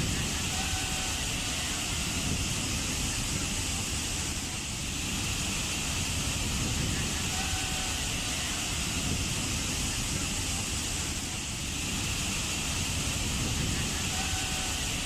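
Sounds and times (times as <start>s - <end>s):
waterfall rumbling and hissing: 0.0s - 15.0s.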